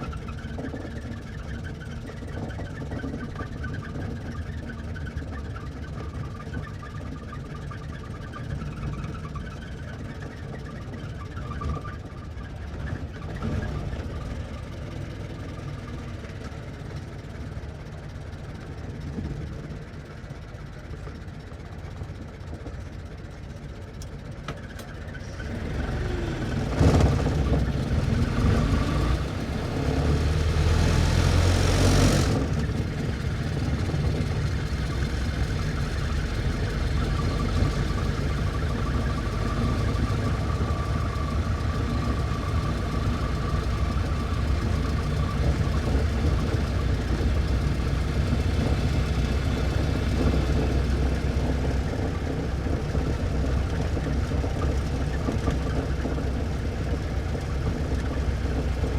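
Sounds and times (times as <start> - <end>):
old car engine running: 0.0 - 58.9.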